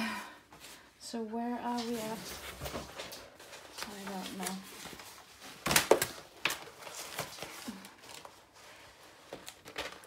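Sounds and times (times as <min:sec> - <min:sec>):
canvas and paper rustling: 0:01.6 - 0:10.0.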